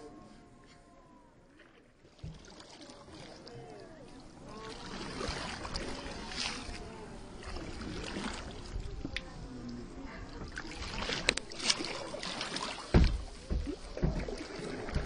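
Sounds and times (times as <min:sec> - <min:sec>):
water swishing: 0:00.0 - 0:15.0
paddle splashing in water: 0:01.4 - 0:15.0.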